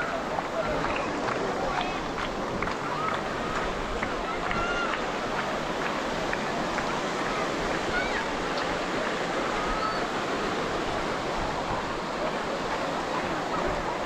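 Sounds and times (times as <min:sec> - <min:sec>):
faint distant voices: 0:00.0 - 0:14.0
ocean surf breaking: 0:00.0 - 0:14.0.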